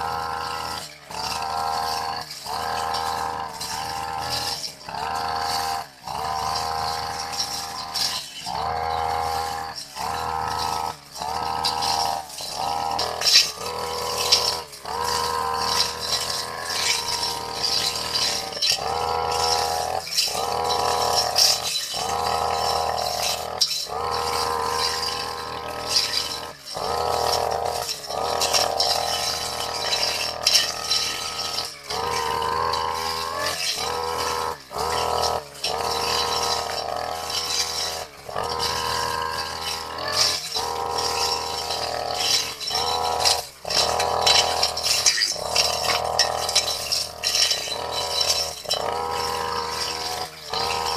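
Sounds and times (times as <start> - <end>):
brush cutter cutting grass: 0.0 - 50.9.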